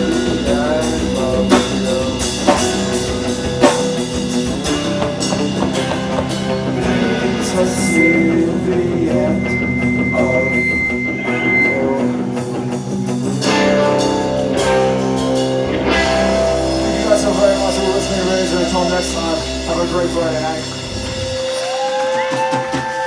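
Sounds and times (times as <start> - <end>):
drum and cymbal hits: 0.0 - 9.3, 12.9 - 23.0
distorted electric guitars: 0.0 - 23.0
high whine: 0.0 - 23.0.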